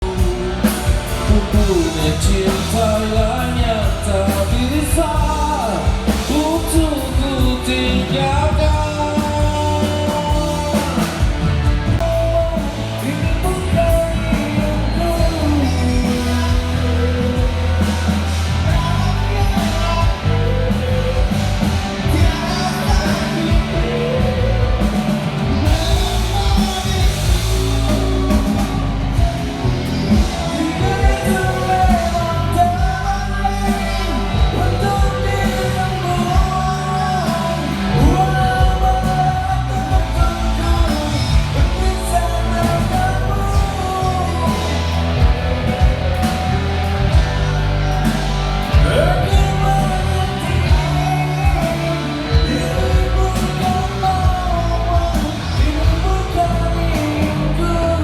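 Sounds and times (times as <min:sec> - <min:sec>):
bass line: 0:00.0 - 0:58.0
drums: 0:00.0 - 0:58.0
lead vocal: 0:00.0 - 0:58.0.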